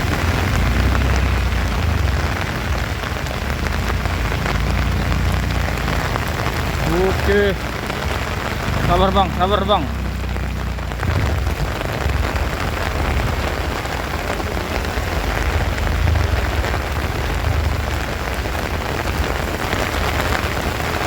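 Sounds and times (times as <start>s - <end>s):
low steady rumble: 0.0s - 20.8s
heavy rain pouring: 0.0s - 21.0s.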